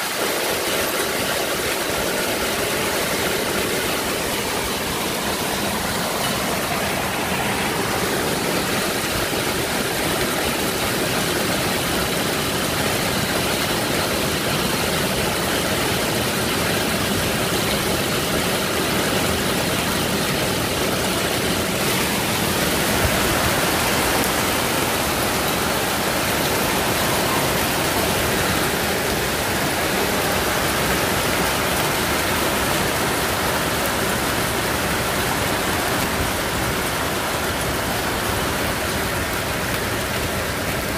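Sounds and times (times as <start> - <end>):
heavy rain and hail: 0.0 - 40.9.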